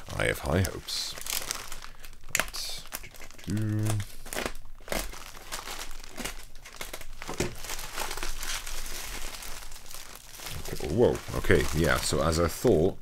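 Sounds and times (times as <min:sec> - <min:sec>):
plastic mailer bag crinkling: 0:00.0 - 0:12.8.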